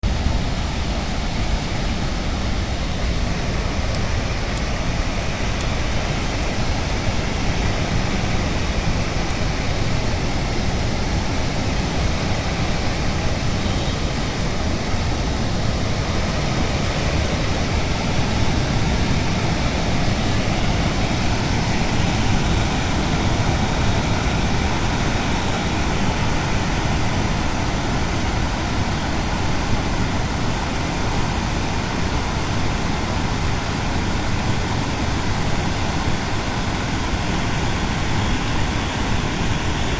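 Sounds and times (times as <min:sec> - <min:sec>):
floodwater pouring through spillway: 0:00.0 - 0:39.9.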